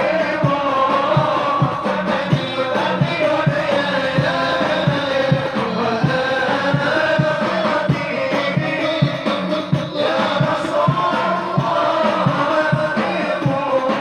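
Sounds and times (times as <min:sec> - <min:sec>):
group chanting in unison: 0:00.0 - 0:14.0
steady drum beat: 0:00.0 - 0:14.0.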